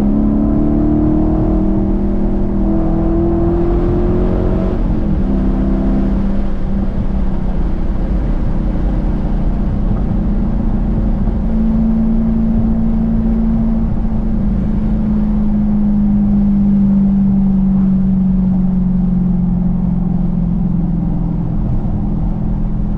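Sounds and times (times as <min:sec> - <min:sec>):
car engine cruising: 0:00.0 - 0:22.9.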